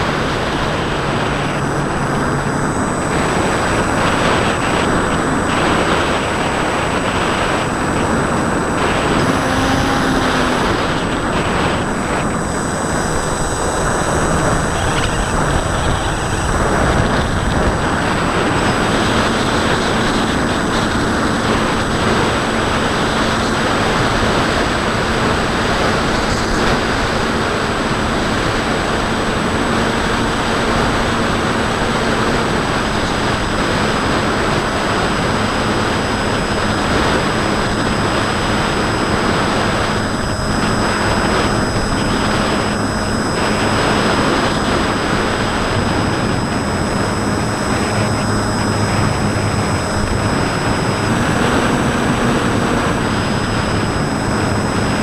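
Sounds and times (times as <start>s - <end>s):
electric motor and propeller hum: 0.0s - 55.0s
wind rush: 0.0s - 55.0s.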